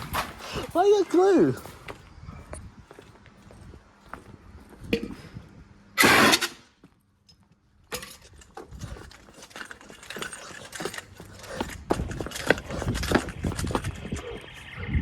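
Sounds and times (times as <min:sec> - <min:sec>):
handling noises: 0:00.0 - 0:05.4, 0:06.0 - 0:14.6
footsteps: 0:00.0 - 0:14.6.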